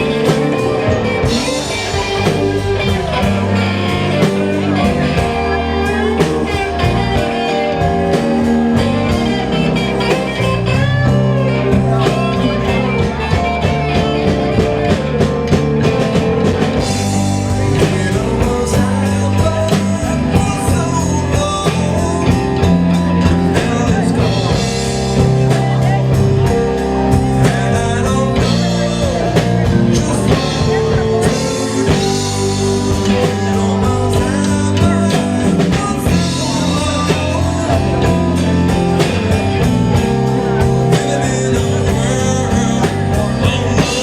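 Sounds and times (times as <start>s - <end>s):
guitar: 0.0s - 44.0s
live blues band playing: 0.0s - 44.0s.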